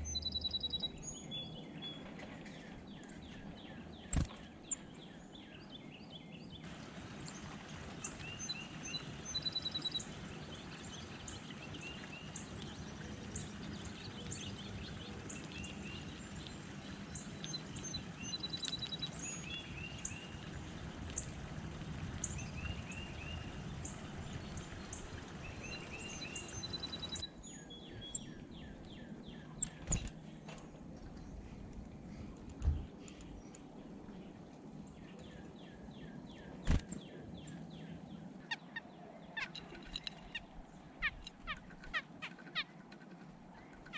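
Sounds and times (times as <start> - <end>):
low background hum: 0.0 - 43.9
small birds chirping: 0.0 - 43.9.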